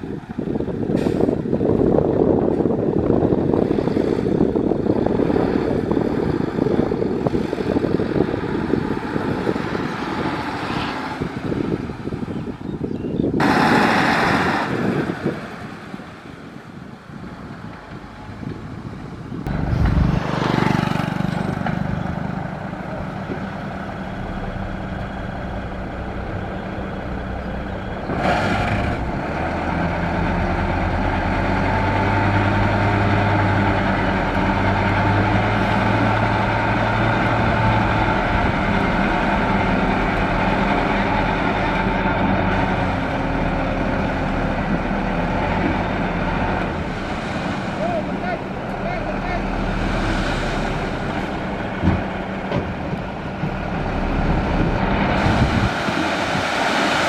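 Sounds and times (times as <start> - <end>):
diesel construction vehicles running: 0.0 - 57.0
steady engine hum: 0.0 - 57.0.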